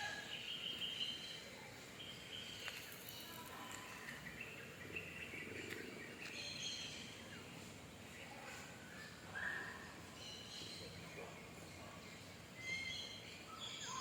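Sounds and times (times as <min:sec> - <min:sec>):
birds chirping: 0:00.0 - 0:14.0
faint outdoor background hiss: 0:00.0 - 0:14.0.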